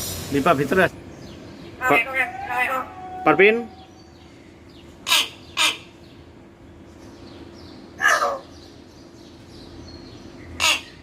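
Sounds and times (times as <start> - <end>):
myna bird calling: 1.0 - 11.0.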